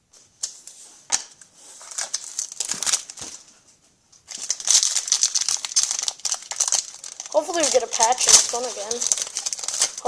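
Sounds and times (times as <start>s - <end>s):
plastic wrapper crinkling: 1.1s - 3.6s, 4.3s - 10.0s.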